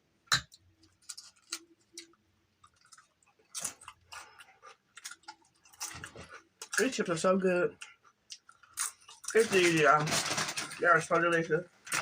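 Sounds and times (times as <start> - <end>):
chewing and crunching chips: 0.6 - 12.0.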